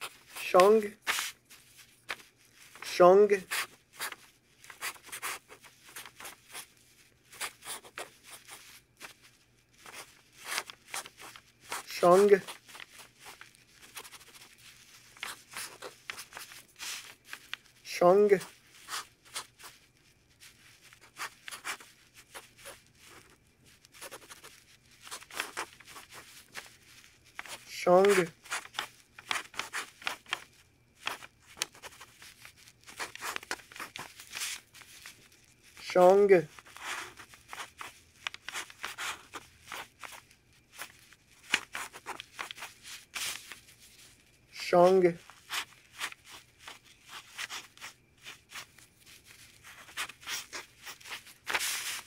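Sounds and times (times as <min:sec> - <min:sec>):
marker scratching on paper: 0:00.0 - 0:09.2, 0:09.8 - 0:17.6, 0:18.3 - 0:19.8, 0:20.6 - 0:26.8, 0:27.4 - 0:34.8, 0:36.0 - 0:40.2, 0:40.8 - 0:43.5, 0:45.1 - 0:48.8, 0:49.6 - 0:52.0.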